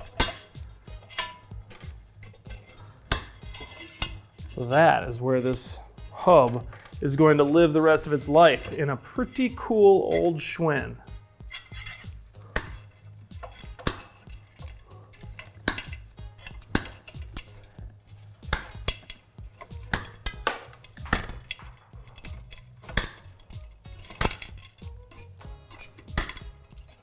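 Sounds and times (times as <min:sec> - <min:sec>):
metallic clinks of bicycle parts: 0:00.0 - 0:27.0.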